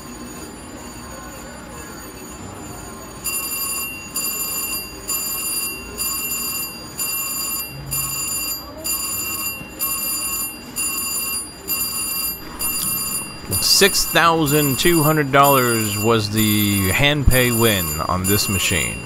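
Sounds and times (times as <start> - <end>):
slot machine bell ringing: 0.0 - 19.0.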